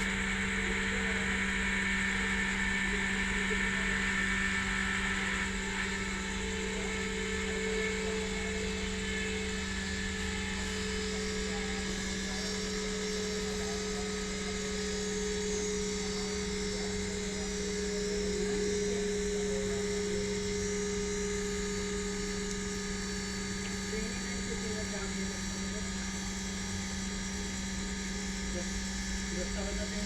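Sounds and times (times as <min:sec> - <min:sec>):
diesel locomotive engine droning: 0:00.0 - 0:30.0.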